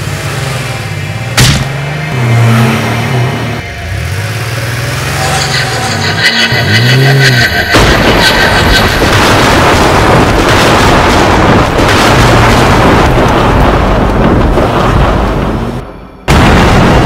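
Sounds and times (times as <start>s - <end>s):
steady rumbling roar: 0.0s - 17.0s.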